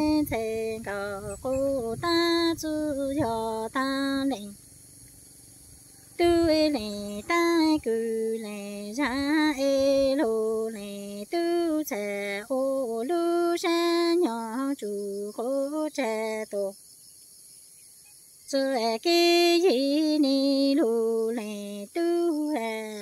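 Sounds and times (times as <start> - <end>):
woman singing unaccompanied: 0.0 - 4.6, 6.0 - 16.8, 18.4 - 23.0.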